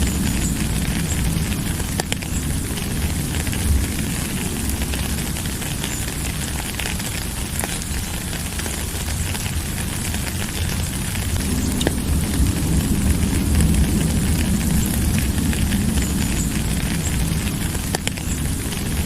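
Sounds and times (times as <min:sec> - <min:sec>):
low rumble: 0:00.0 - 0:19.0
sharp rain drop ticks: 0:00.0 - 0:19.0
steady rain hiss: 0:00.0 - 0:19.0.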